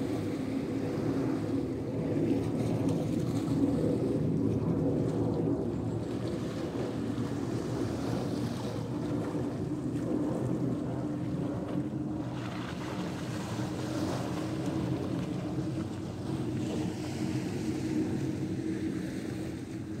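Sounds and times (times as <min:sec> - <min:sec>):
boat engine humming: 0:00.0 - 0:20.0
wind noise on microphone: 0:00.0 - 0:20.0.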